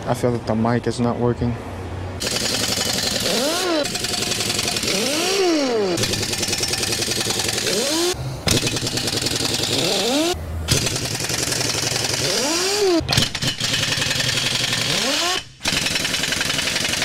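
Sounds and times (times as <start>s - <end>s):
pneumatic impact wrench rattling: 2.2s - 17.0s.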